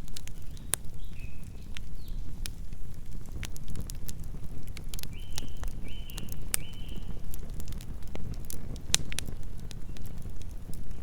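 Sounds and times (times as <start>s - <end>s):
burning wood crackling and popping: 0.0s - 11.0s
campfire flames rumbling: 0.0s - 11.0s.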